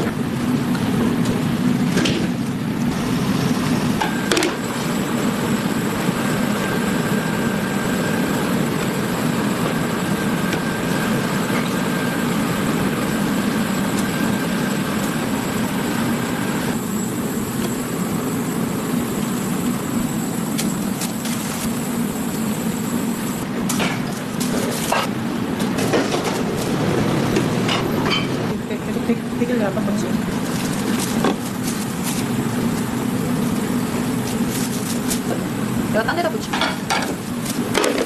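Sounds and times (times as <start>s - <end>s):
steady mechanical hum: 0.0s - 38.0s
thin whine: 2.8s - 36.3s.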